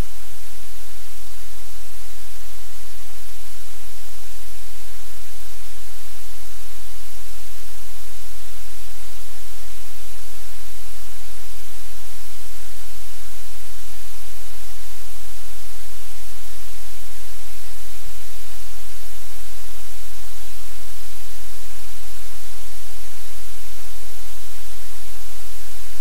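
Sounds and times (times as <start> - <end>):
loud static hiss: 0.0 - 26.0.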